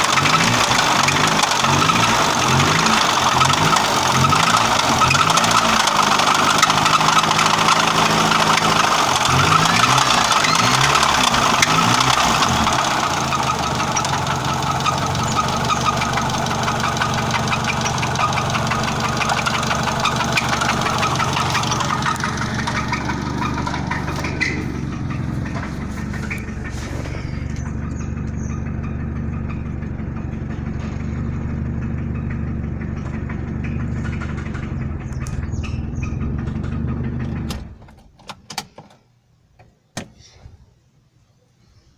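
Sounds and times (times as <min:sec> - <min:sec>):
car engine revving and idling: 0:00.0 - 0:37.9
metal rubbing noise from engine: 0:00.0 - 0:37.9.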